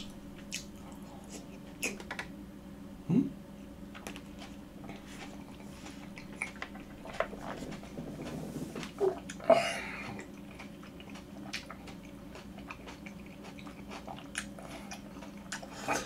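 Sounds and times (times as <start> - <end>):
person chewing wet squishes: 0.0 - 2.2, 3.9 - 16.0.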